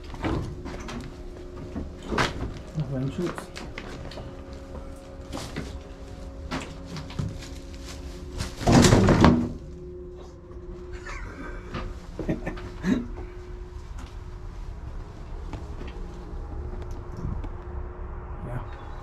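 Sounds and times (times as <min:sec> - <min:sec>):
footsteps: 0:00.0 - 0:17.7
faint steady hum: 0:00.0 - 0:19.0.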